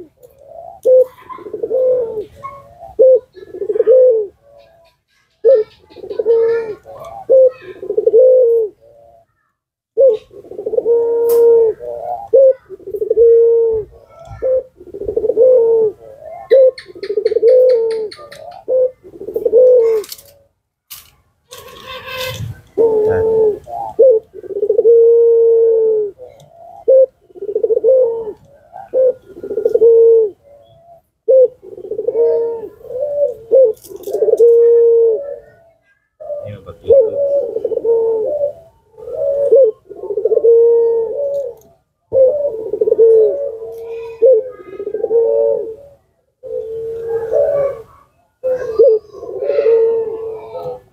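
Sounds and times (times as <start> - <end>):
dove cooing: 0.0 - 20.6, 21.5 - 50.9.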